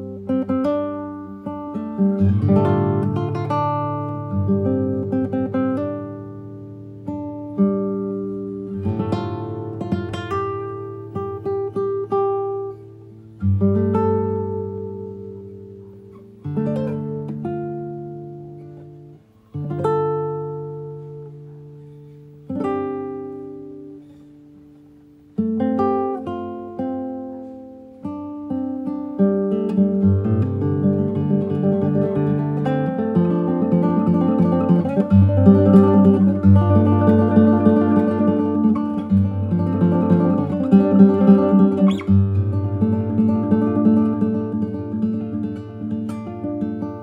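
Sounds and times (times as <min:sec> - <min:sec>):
slow acoustic guitar: 0:00.0 - 0:47.0.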